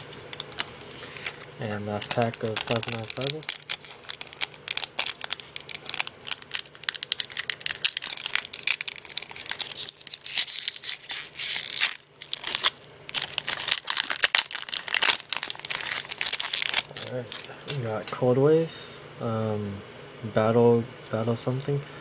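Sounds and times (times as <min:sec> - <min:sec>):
plastic wrapper crinkling and tearing: 0:00.0 - 0:18.2.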